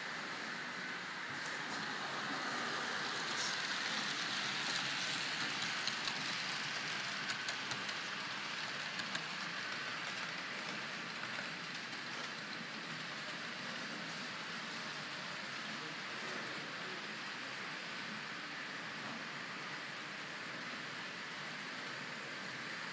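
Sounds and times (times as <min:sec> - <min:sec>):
model train rolling on track: 0:00.0 - 0:22.9.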